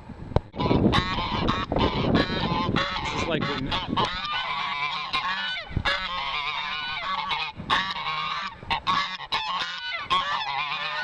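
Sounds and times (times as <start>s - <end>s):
geese honking: 0.6s - 11.0s.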